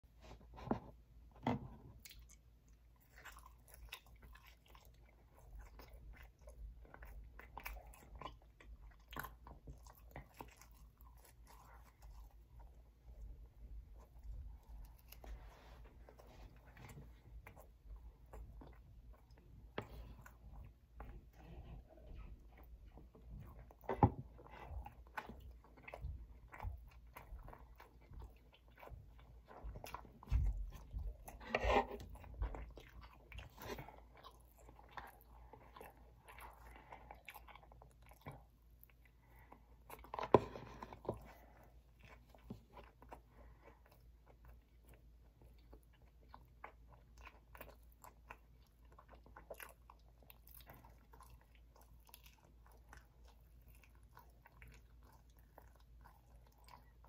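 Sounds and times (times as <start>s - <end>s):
chewing and biting pizza: 0.1s - 57.0s.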